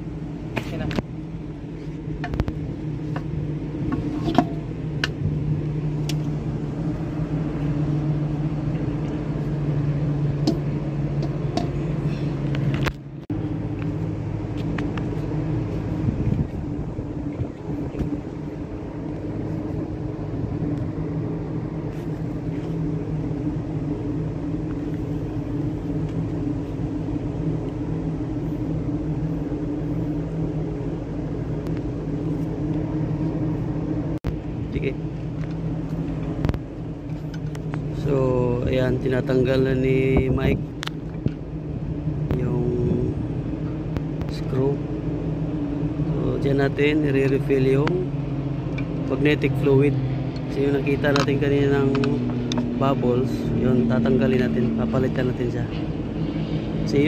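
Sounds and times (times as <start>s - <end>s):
ship engines humming: 0.0s - 57.0s.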